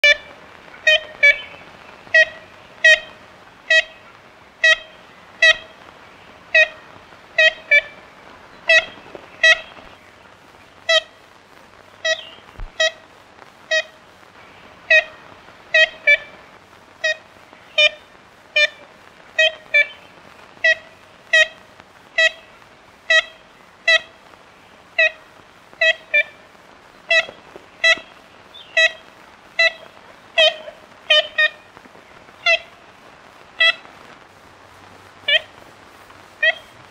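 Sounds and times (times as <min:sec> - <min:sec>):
woodpecker nasal horn-like calls: 0:00.0 - 0:11.2, 0:12.0 - 0:13.1, 0:13.7 - 0:33.9, 0:35.2 - 0:35.6, 0:36.4 - 0:36.9.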